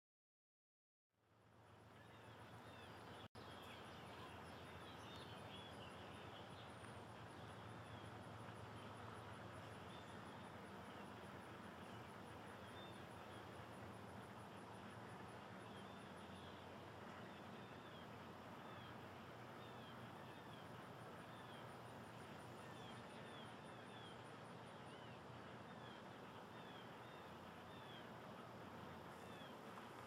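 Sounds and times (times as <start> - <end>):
faint steady hiss: 1.2 - 30.0.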